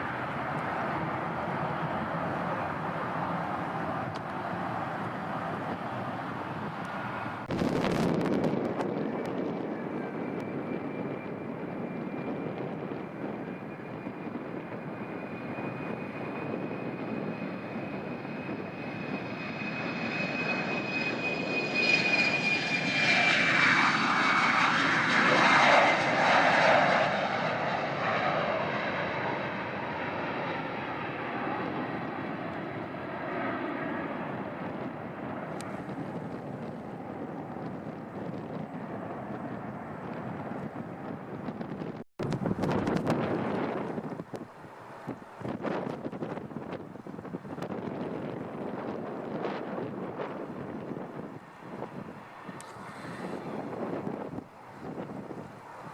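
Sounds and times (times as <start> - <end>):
airliner engine whine: 0.0 - 55.9.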